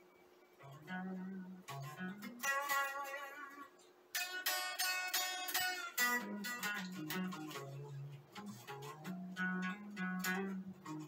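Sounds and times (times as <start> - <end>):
electric guitar low picked notes: 0.6 - 11.0
electric guitar ringing chords: 0.6 - 11.0.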